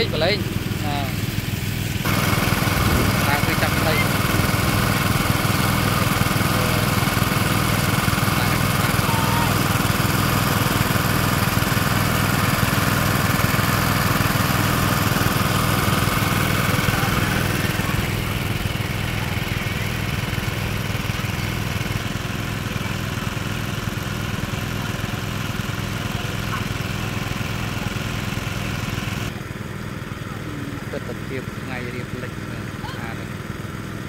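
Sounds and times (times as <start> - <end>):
water pump engine running: 0.0 - 34.0.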